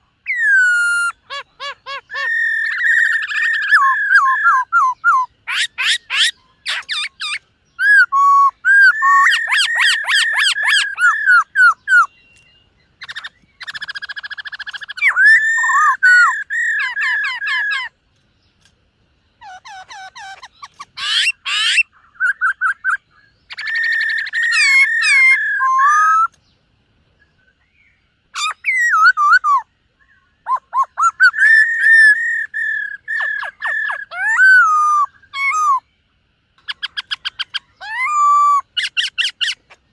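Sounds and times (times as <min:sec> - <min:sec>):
bird singing whistled phrases: 0:00.2 - 0:17.9, 0:19.4 - 0:26.4, 0:27.7 - 0:35.9, 0:36.7 - 0:39.6.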